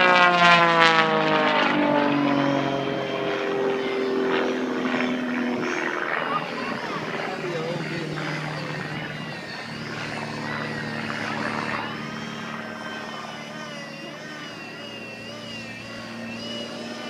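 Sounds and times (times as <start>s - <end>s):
model airplane motor droning: 0.0s - 17.0s
steady low hum: 0.2s - 17.0s.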